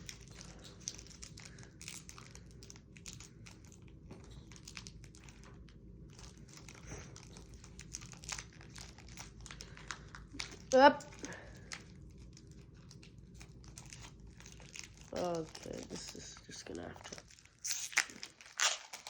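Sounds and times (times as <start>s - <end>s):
foil wrapper crinkling: 0.0s - 19.0s.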